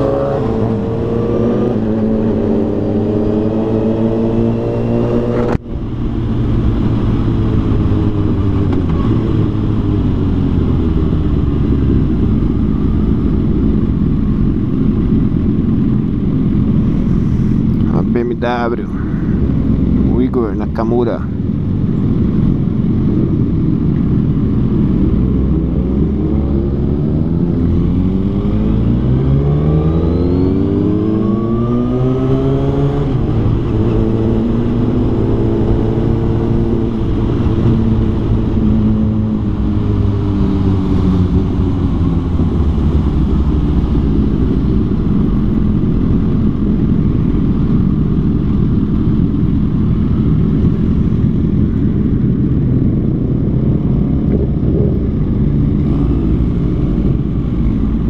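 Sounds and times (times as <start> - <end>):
motorcycle engine accelerating: 0.0 - 18.2, 21.3 - 58.0
road rumble: 0.0 - 58.0.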